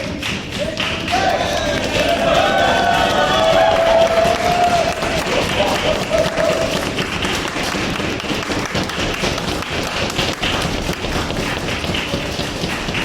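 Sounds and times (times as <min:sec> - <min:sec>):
footsteps and light taps: 0:00.0 - 0:13.0.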